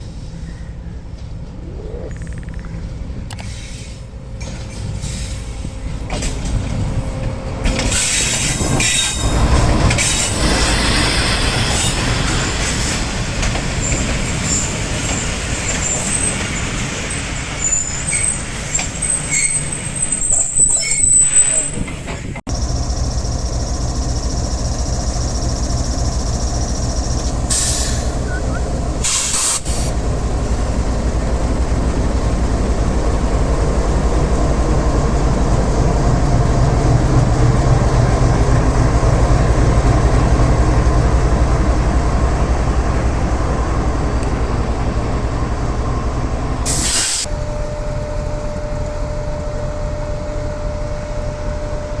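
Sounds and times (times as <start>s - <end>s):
diesel locomotive engine throbbing: 0.0s - 52.0s.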